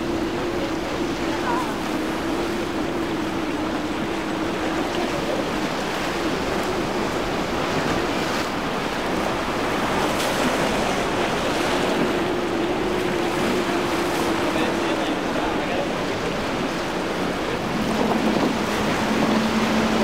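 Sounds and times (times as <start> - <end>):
outboard engines droning: 0.0 - 20.0
surf: 0.0 - 20.0
wind on microphone: 0.0 - 20.0.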